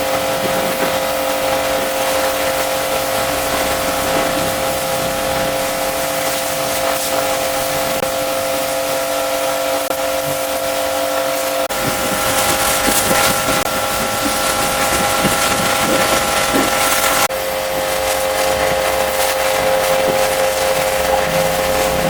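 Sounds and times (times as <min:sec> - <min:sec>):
cleaning machine motor whine: 0:00.0 - 0:22.0
loud hiss: 0:00.0 - 0:22.0.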